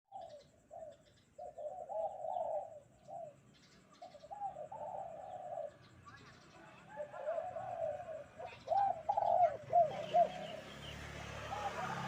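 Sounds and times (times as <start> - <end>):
dove cooing: 0.1 - 12.0
small birds chirping: 0.1 - 12.0.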